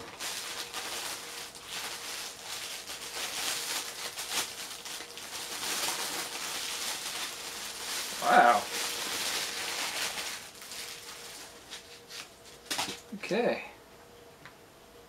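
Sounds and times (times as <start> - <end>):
plastic wrapping crinkling: 0.0 - 13.2.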